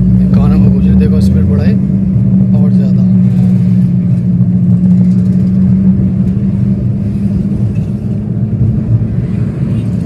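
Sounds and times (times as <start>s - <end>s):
car wheel hum: 0.0s - 10.0s
road and engine rumble: 0.0s - 10.0s.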